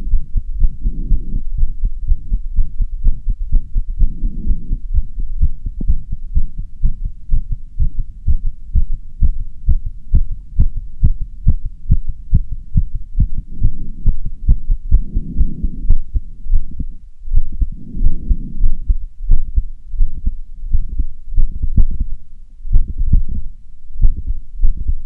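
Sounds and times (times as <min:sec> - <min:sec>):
fast heartbeat: 0:00.0 - 0:25.0.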